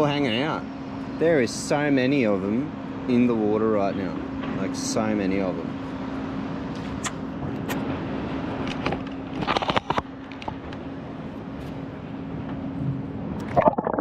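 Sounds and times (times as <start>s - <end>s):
engine-like hum: 0.0s - 14.0s
outdoor background noise: 0.0s - 14.0s.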